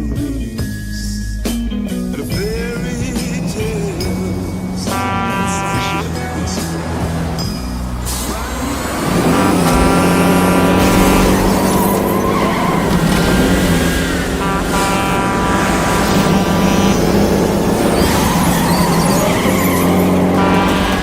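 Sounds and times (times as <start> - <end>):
truck engine running hard: 0.0 - 21.0
tires skidding: 1.5 - 21.0.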